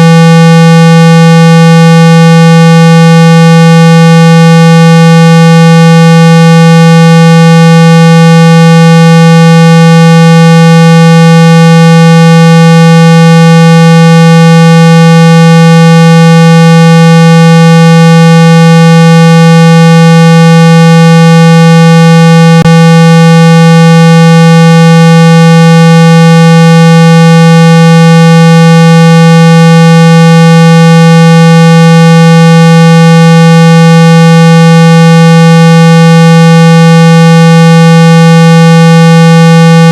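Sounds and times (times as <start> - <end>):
buzzy test tone: 0.0 - 39.9.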